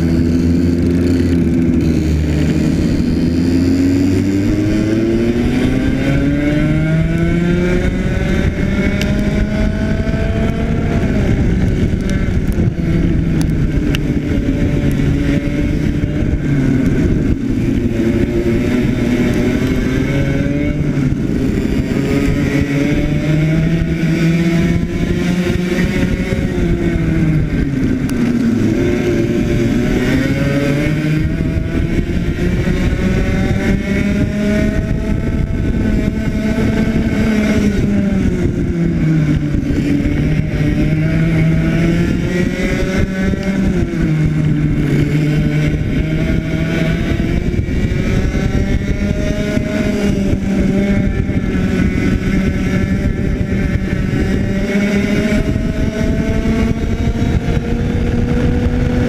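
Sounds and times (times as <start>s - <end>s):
racing kart engine: 0.0s - 59.0s
wind noise: 0.0s - 59.0s.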